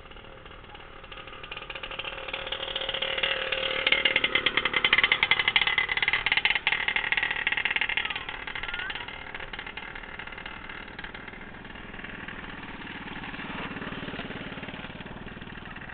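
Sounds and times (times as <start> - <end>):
small engine pulsing: 0.0 - 15.9.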